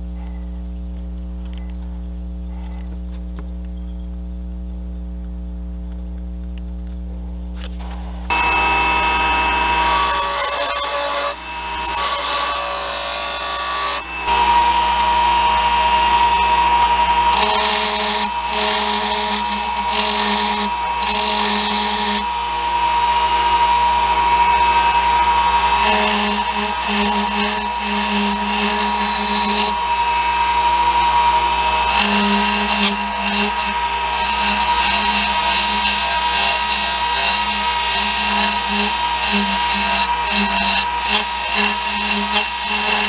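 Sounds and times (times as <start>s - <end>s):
turning tool scraping wood: 7.6s - 43.0s
lathe motor humming: 8.1s - 43.0s.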